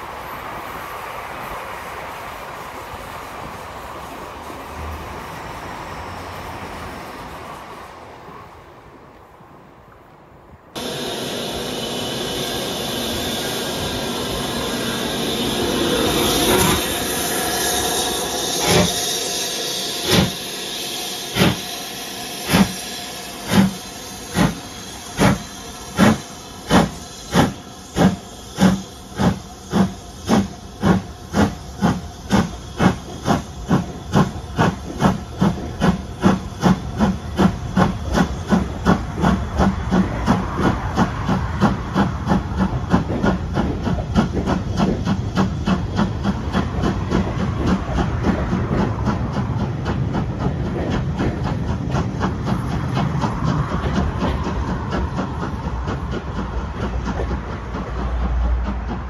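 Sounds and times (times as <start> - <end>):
steam locomotive exhaust chuffs: 10.8 - 59.0.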